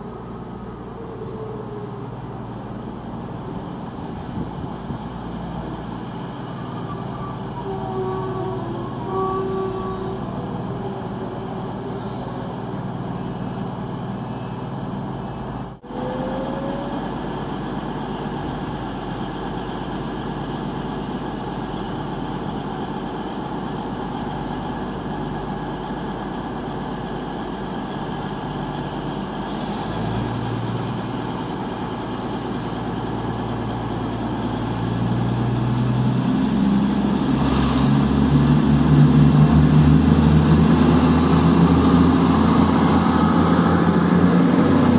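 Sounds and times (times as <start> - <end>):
low engine hum: 0.0 - 44.9.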